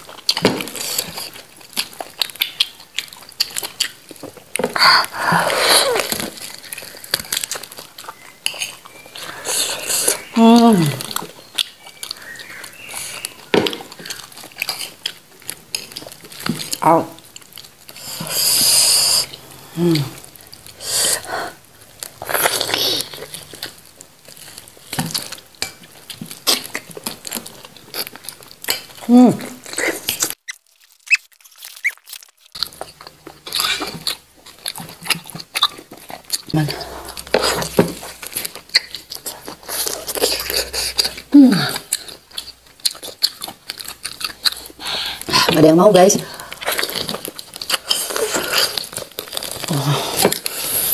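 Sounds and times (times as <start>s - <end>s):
meat tearing clicks and crackles: 0.0s - 20.8s, 21.6s - 50.9s
wet chewing and smacking: 0.0s - 50.9s.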